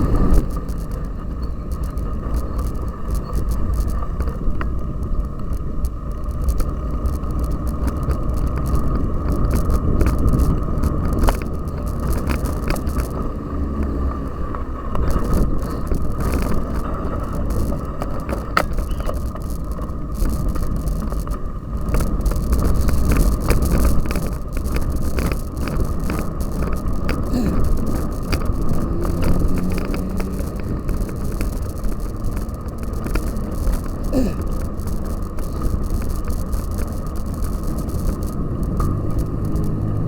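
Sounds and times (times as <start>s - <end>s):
bike clicks and rattles: 0.0s - 40.0s
bike rumbling over rough ground: 0.0s - 40.0s.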